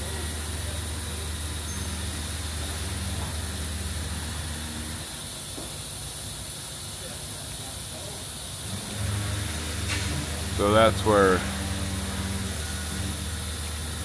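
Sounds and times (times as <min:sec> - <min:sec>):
low machine hum: 0:00.0 - 0:06.6, 0:08.0 - 0:14.0
machine hiss: 0:00.0 - 0:14.0.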